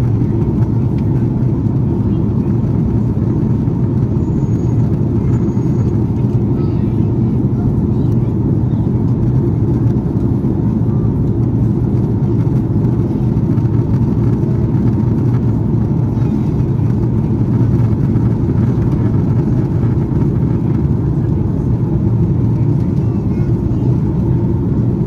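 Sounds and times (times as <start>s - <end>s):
airflow around fuselage: 0.0s - 25.0s
jet engine drone: 0.0s - 25.0s.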